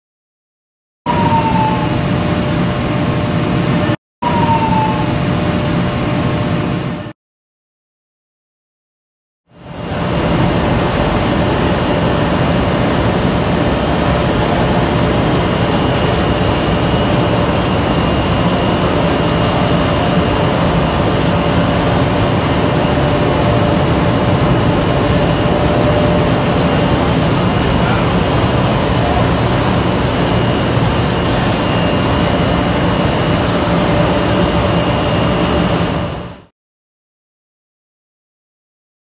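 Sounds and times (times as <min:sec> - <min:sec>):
industrial machine hum: 0:01.1 - 0:07.2, 0:09.5 - 0:36.5
thin high whine: 0:01.1 - 0:07.2, 0:09.6 - 0:36.3.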